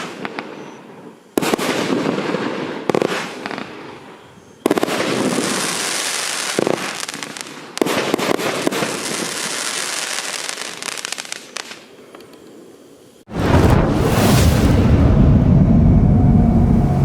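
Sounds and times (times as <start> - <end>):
fireworks shots: 1.4 - 11.9, 13.3 - 17.0.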